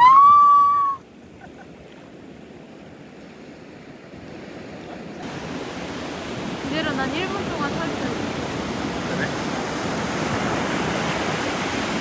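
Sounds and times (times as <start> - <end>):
ocean waves washing on beach: 0.0 - 12.0.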